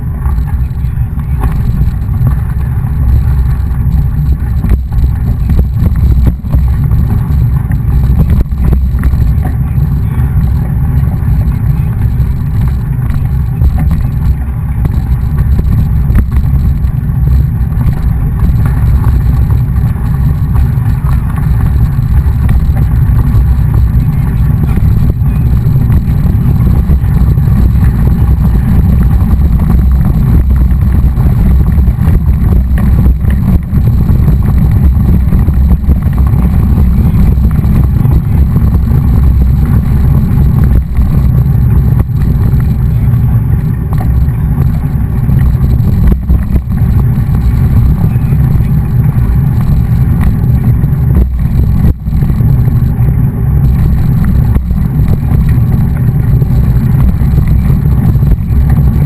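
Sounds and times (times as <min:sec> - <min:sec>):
bike tyre and road noise: 0:00.0 - 0:59.0
wind buffeting microphone: 0:00.0 - 0:59.0.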